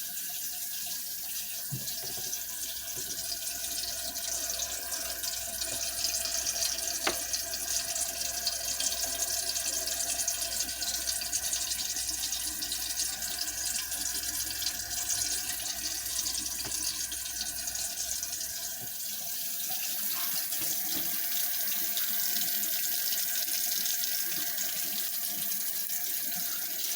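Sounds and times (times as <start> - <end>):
faucet water running into sink: 0.0 - 26.9.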